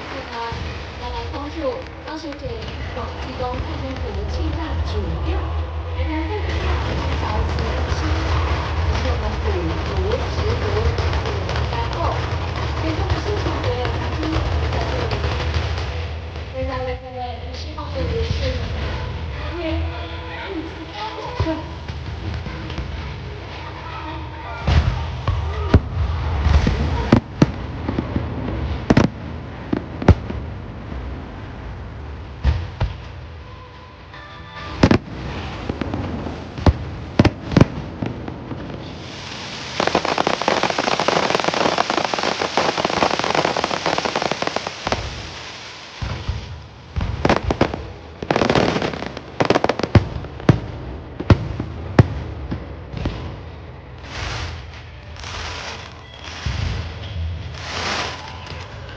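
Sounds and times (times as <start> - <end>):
fireworks bangs: 0.0 - 17.0, 24.6 - 33.5, 34.6 - 58.9
steady low rumble: 0.0 - 58.9.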